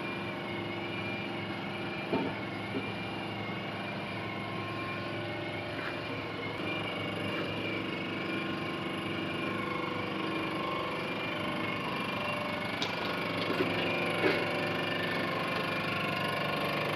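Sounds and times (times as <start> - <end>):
machinery humming: 0.0 - 16.9.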